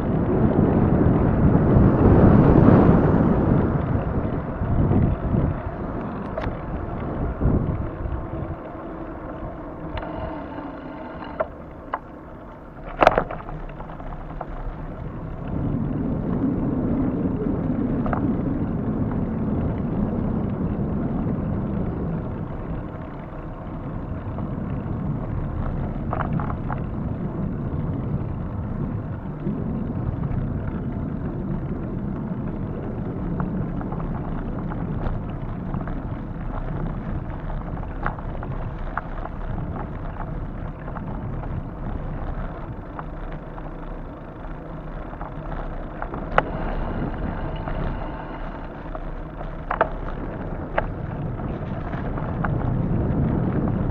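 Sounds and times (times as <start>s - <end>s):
tyres rolling on asphalt: 0.0s - 53.9s
wind buffeting microphone: 0.0s - 53.9s.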